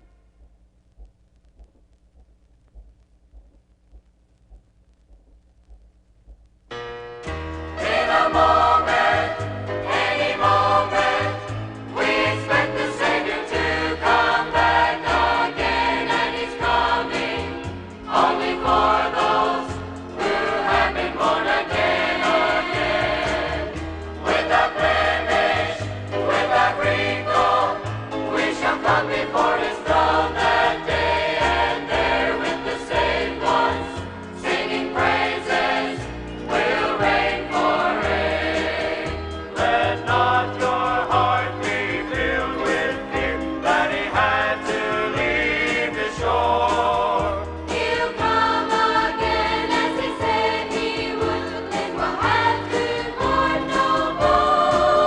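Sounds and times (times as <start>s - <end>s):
gospel choir singing: 7.8s - 55.0s.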